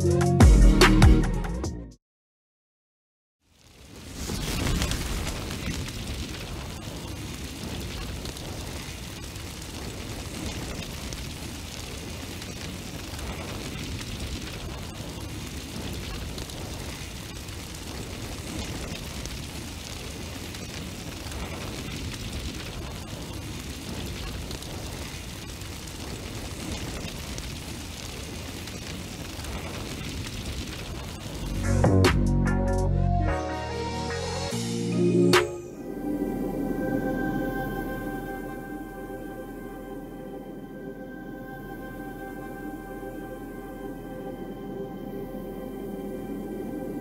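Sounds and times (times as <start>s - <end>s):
flame burst burning with hiss: 3.4s - 31.7s, 35.8s - 47.0s.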